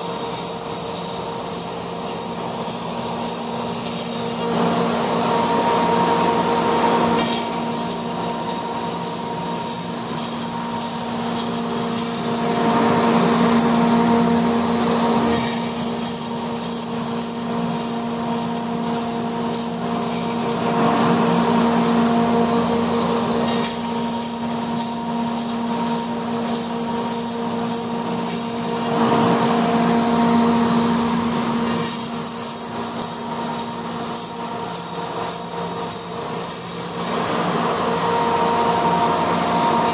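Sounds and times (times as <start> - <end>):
router bit cutting foam: 0.0 - 39.9
router spindle whine: 0.0 - 39.9.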